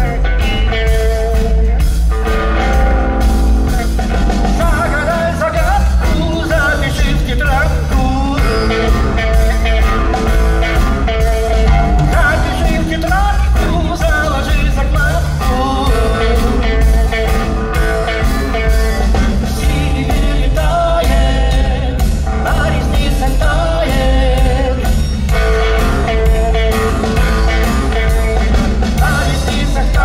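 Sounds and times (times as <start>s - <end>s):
bass guitar: 0.0s - 30.0s
drum kit: 0.0s - 30.0s
guitar: 0.0s - 30.0s
man singing: 3.6s - 30.0s.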